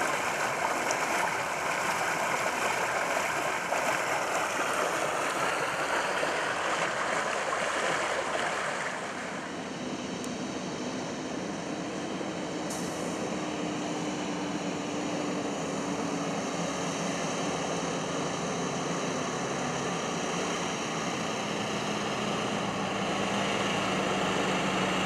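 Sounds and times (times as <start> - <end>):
diesel truck engine approaching: 0.0 - 25.0.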